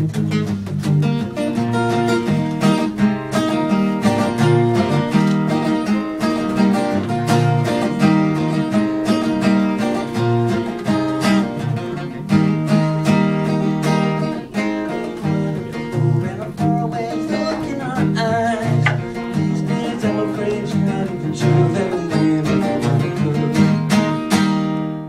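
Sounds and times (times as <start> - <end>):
acoustic guitar strummed: 0.0 - 25.0.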